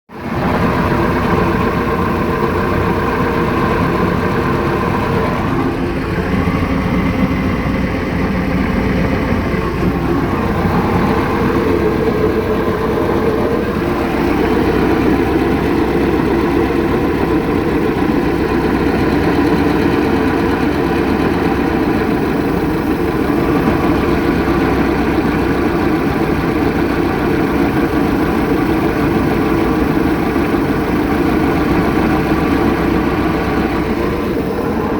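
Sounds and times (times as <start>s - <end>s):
boat engine idling roughly: 0.1s - 34.9s.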